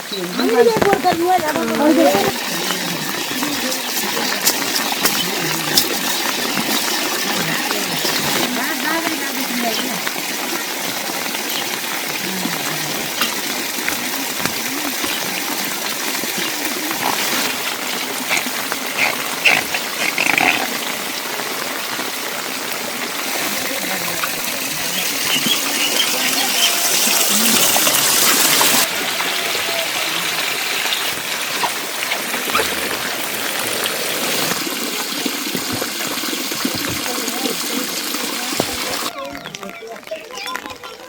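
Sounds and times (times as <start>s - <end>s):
water rushing: 0.0s - 41.0s.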